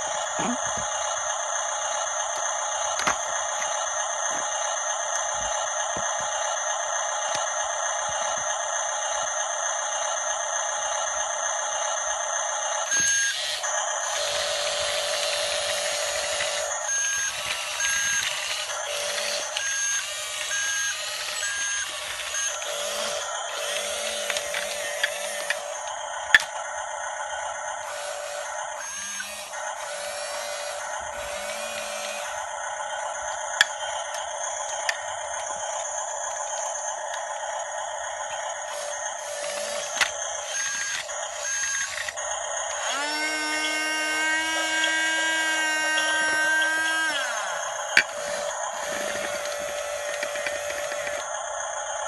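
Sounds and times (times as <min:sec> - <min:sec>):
electric motors whining: 0:00.0 - 0:52.0.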